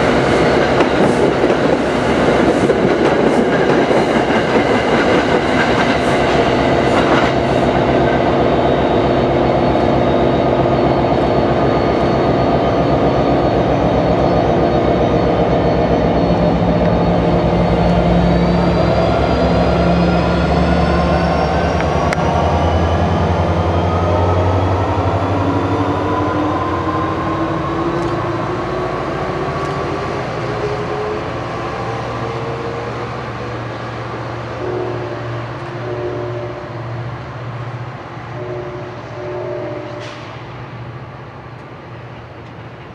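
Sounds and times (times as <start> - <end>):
train whine rising in pitch: 0.0 - 40.5
diesel train engine hum: 0.0 - 42.9.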